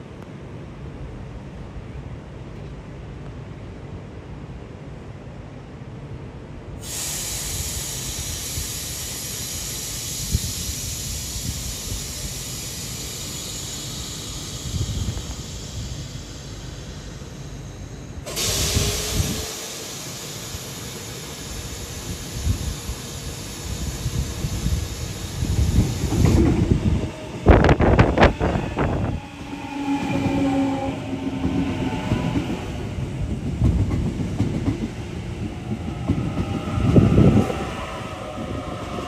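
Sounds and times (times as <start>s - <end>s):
electric train running past: 0.0s - 39.0s.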